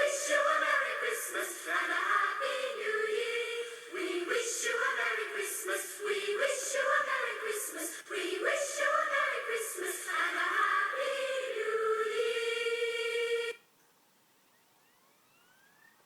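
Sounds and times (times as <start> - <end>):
children's choir singing: 0.0 - 13.6.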